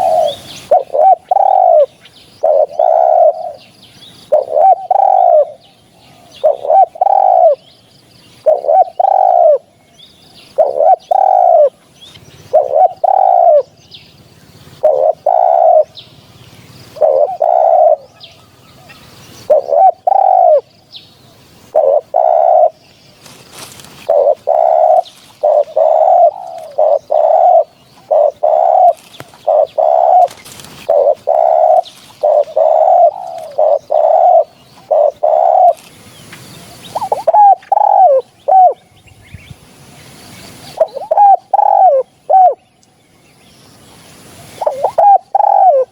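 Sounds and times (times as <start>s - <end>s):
dove cooing: 0.0s - 7.7s, 8.4s - 9.8s, 10.5s - 36.0s, 36.7s - 38.8s, 40.6s - 42.6s, 44.4s - 45.9s.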